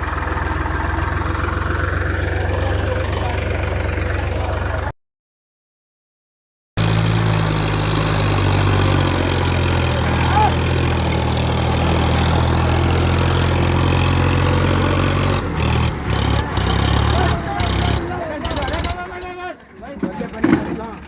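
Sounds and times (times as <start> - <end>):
tractor engine running: 0.0 - 4.9, 6.8 - 21.0.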